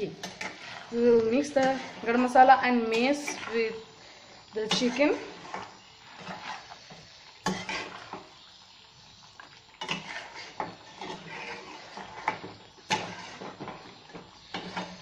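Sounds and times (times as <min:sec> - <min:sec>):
spatula stirring thick gravy: 0:00.1 - 0:15.0.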